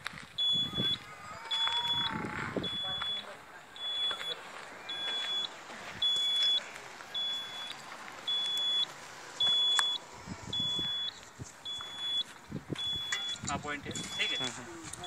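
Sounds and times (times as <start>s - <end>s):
high electronic beeps: 0.4s - 14.6s.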